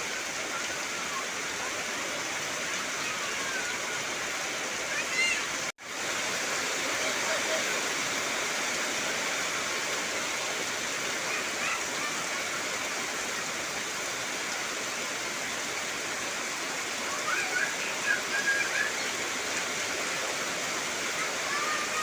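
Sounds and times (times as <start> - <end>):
heavy rain on trees: 0.0 - 22.0.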